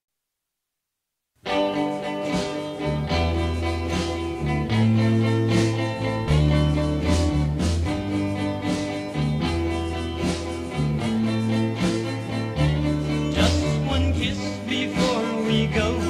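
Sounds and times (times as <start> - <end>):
pop band instrumental: 1.4 - 16.0.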